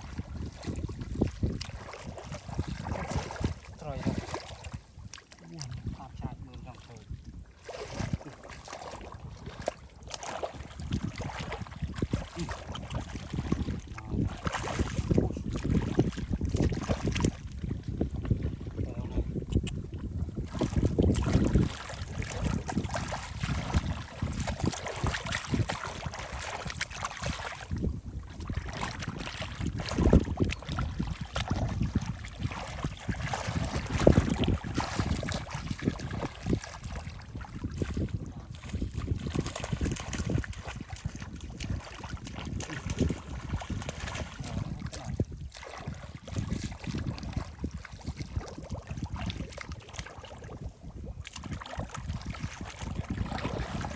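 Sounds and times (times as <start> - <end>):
shallow water sloshing and splashing: 0.0 - 53.9.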